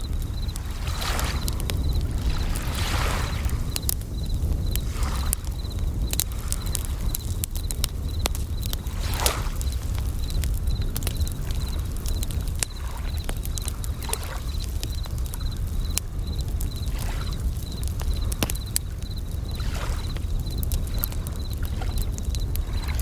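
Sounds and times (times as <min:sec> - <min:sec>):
steady low rumble: 0:00.0 - 0:22.8
campfire crackling and popping: 0:00.0 - 0:23.0
crickets chirping: 0:00.0 - 0:23.0
waves sloshing: 0:00.0 - 0:23.0.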